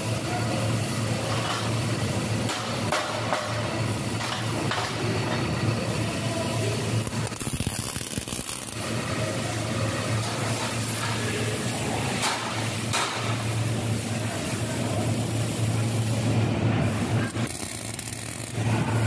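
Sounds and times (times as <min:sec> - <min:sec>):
welding arc crackle and hiss: 0:00.0 - 0:19.0.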